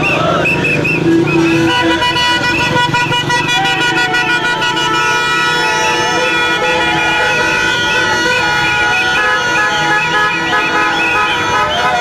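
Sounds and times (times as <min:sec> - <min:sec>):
car horns honking: 0:00.0 - 0:12.0
short horn toots: 0:00.6 - 0:12.0.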